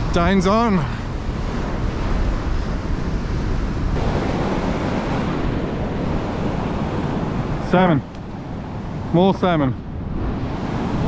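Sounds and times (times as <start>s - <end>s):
wind rumbling on microphone: 0.0s - 11.0s
surf breaking on beach: 0.1s - 11.0s.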